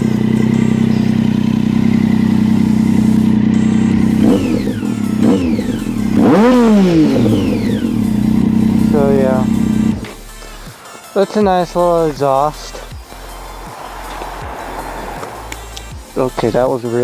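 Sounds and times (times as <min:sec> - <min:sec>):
motorcycle engine idling and revving: 0:00.0 - 0:10.7, 0:11.4 - 0:17.0.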